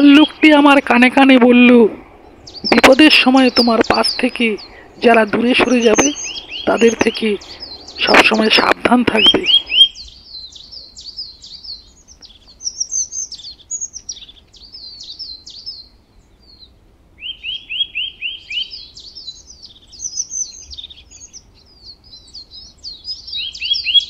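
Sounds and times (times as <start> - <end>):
small birds chirping and twittering: 0.0 - 24.0.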